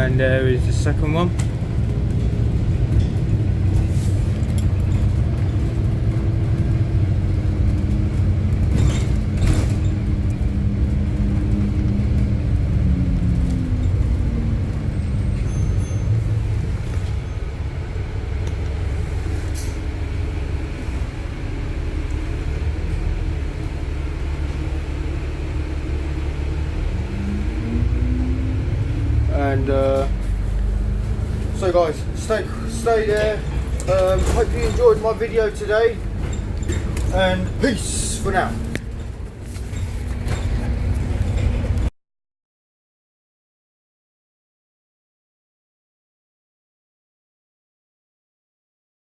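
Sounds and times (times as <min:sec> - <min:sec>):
bus engine from inside cabin: 0:00.0 - 0:41.9.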